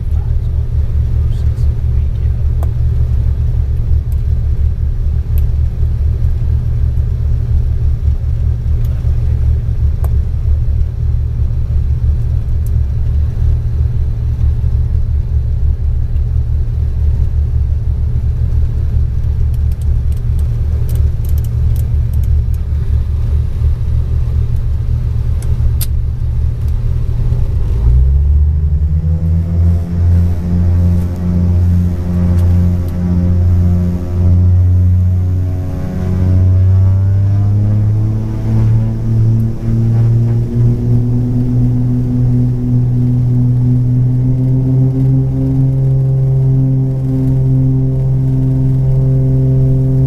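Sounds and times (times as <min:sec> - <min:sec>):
twin piston engines droning: 0:00.0 - 0:50.0.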